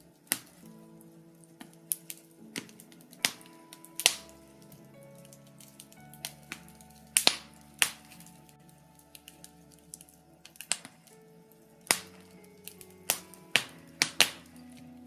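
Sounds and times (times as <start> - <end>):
fire crackling and popping: 0.0 - 15.0
soft music with sustained chords: 0.0 - 15.0.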